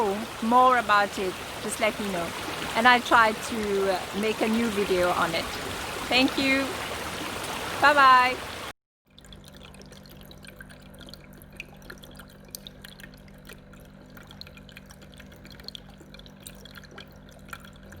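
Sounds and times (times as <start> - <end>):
water dripping and trickling: 0.0 - 18.0.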